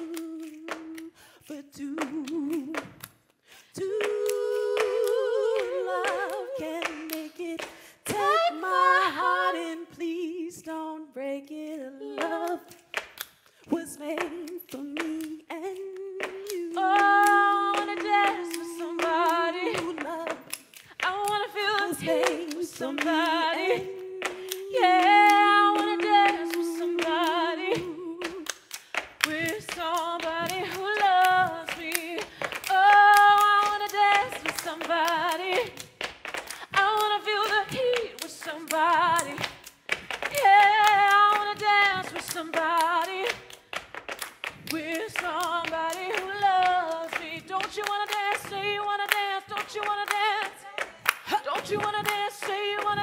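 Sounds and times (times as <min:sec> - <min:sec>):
woman singing a cappella: 0:00.0 - 0:03.0, 0:03.7 - 0:12.9, 0:13.7 - 0:28.6, 0:29.2 - 0:35.9, 0:36.6 - 0:43.5, 0:44.6 - 0:53.0
hand claps: 0:00.0 - 0:08.5, 0:12.2 - 0:53.0.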